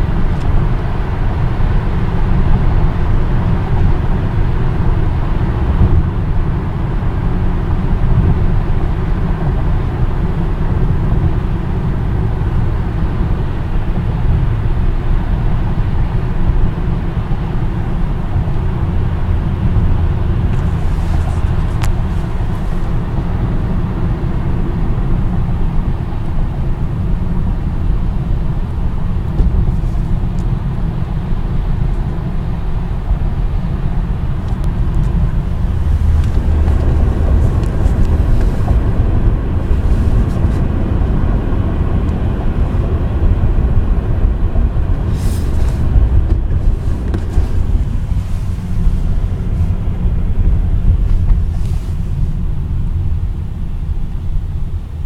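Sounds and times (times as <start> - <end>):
car tyre and road noise: 0.0 - 55.0.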